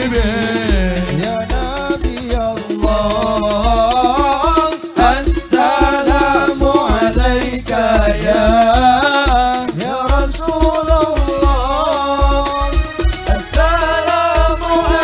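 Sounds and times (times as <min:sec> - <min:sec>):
band with drums: 0:00.0 - 0:15.0
deep drum beat thumping: 0:00.0 - 0:15.0
man singing ornamented melody: 0:00.0 - 0:15.0.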